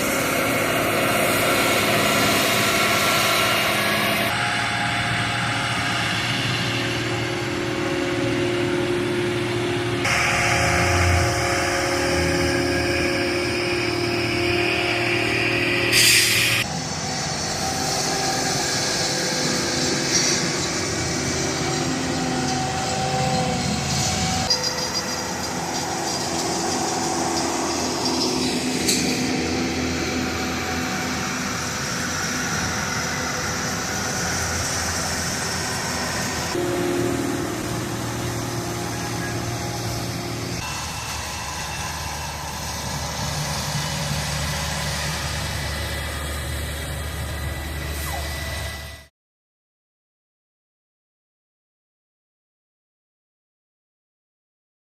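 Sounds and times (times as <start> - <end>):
railroad equipment engine running: 0.0 - 49.1.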